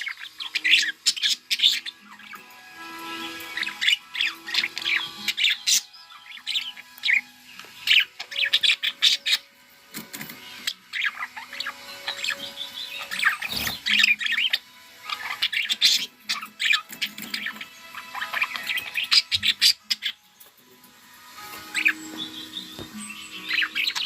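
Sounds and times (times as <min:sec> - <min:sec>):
budgerigars chirping and squawking: 0:00.0 - 0:24.0.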